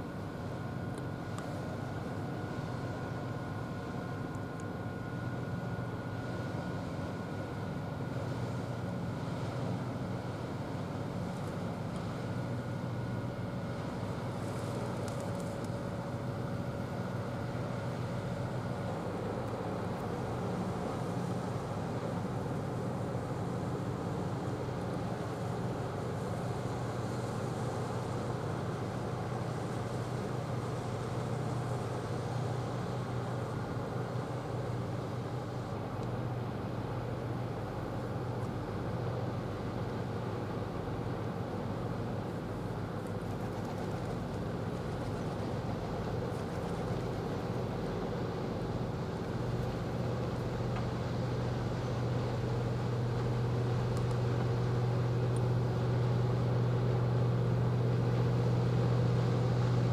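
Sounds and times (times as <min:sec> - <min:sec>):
ship machinery humming: 0:00.0 - 0:59.9.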